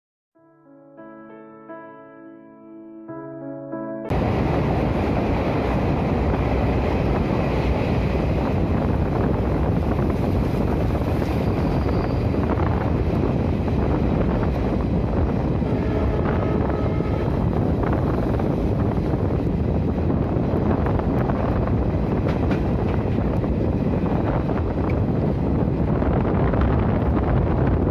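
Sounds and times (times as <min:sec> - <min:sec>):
train wheels rumbling and rattling: 0:04.1 - 0:27.9.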